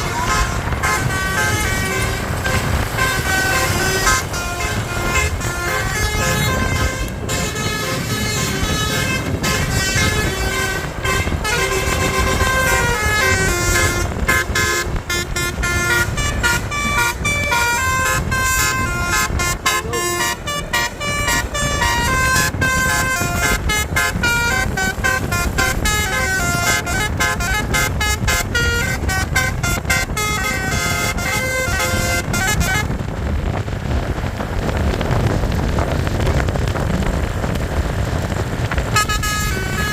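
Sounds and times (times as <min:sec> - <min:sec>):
bus air horn playing a tune: 0:00.0 - 0:33.3, 0:38.1 - 0:39.9
low vehicle noise: 0:00.0 - 0:39.9.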